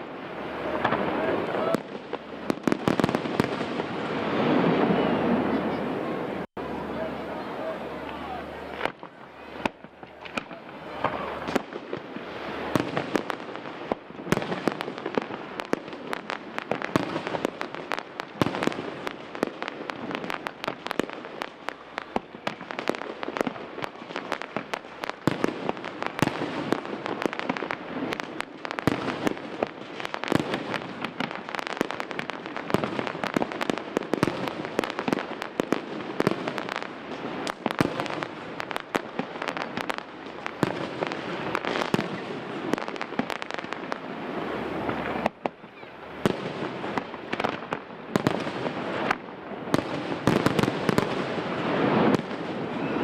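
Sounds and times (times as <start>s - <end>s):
fireworks bursts and crackle: 0.0s - 53.0s.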